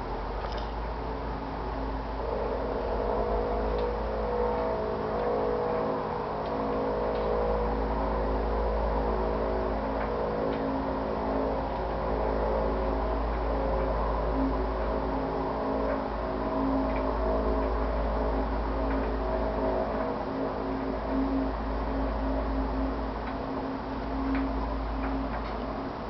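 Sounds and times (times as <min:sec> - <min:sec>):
constant low rumble: 0:00.0 - 0:26.0
droning hum of held tones: 0:00.0 - 0:26.0.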